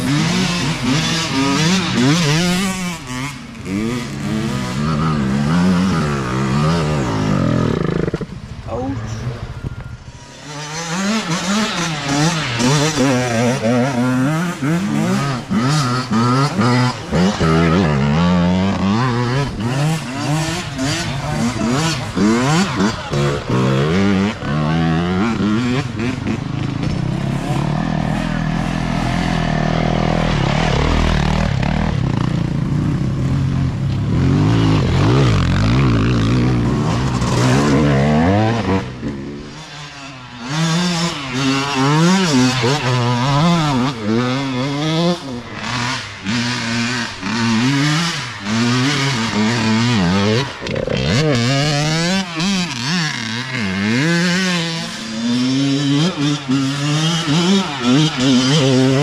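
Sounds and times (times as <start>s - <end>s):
dirt bike engines revving: 0.0s - 59.0s
dirt bike passing close: 0.0s - 59.0s.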